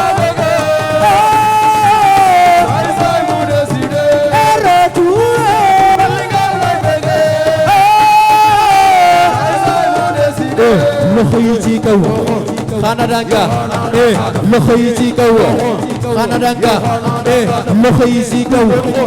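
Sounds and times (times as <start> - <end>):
live band melody: 0.0 - 19.0
steady drum beat: 0.0 - 19.0.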